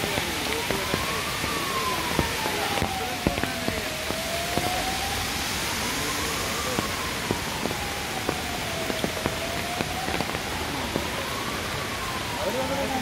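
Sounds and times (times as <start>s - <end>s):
raindrops tapping: 0.0s - 13.0s
siren rising and falling: 0.0s - 13.0s
steady rain: 0.0s - 13.0s.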